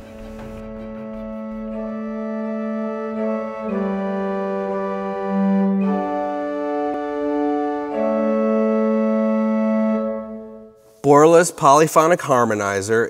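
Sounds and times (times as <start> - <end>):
pipe organ chords: 0.0 - 10.9.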